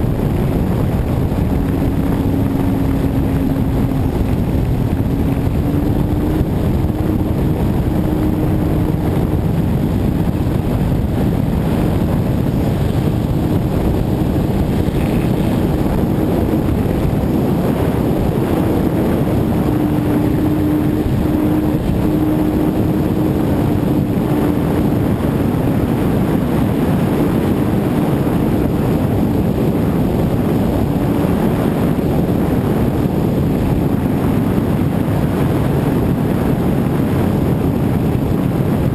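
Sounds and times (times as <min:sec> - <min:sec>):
model airplane motor hum: 0:00.0 - 0:38.9
wind rushing over camera: 0:00.0 - 0:38.9.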